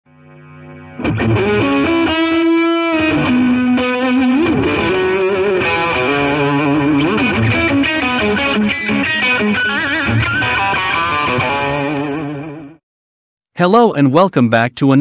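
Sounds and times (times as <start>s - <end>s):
rock music with electric guitar: 0.1s - 12.8s.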